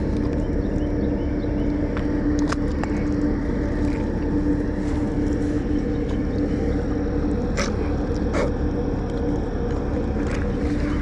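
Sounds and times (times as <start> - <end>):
engine-like hum: 0.0 - 11.0.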